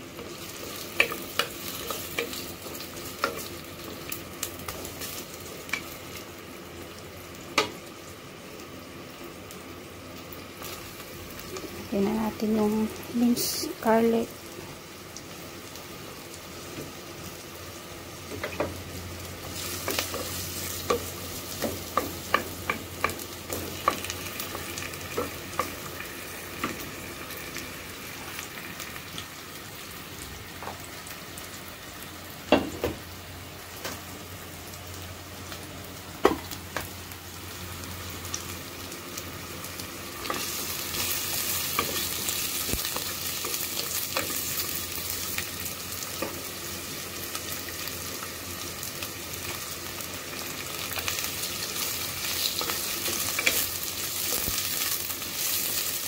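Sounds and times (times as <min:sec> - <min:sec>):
aromatics sizzling in hot oil: 0:00.0 - 0:56.0.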